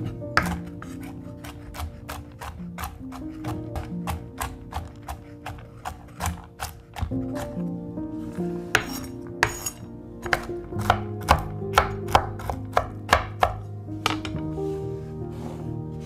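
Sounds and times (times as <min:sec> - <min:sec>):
knife chopping nuts on wooden board: 0:00.0 - 0:07.6, 0:08.8 - 0:14.4
soft background music: 0:00.0 - 0:16.0.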